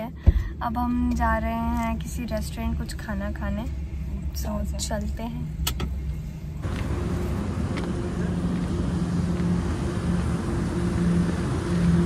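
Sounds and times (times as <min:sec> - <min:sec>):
low machine drone: 0:00.0 - 0:12.0
rumbling background: 0:00.0 - 0:12.0.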